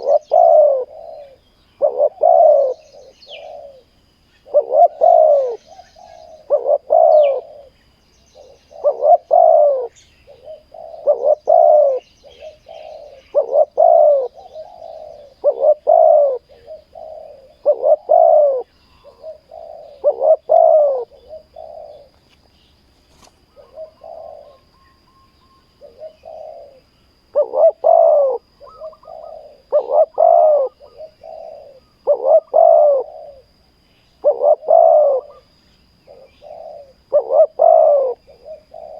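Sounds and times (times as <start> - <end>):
dove cooing: 0.0 - 22.3, 23.2 - 38.9
faint small-bird chirps: 0.0 - 38.9.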